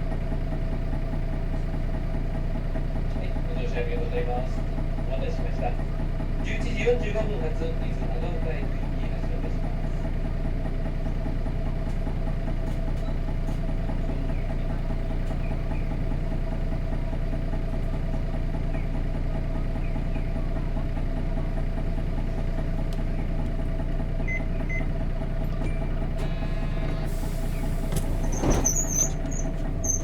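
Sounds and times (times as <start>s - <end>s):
bus diesel engine idling: 0.0s - 30.0s.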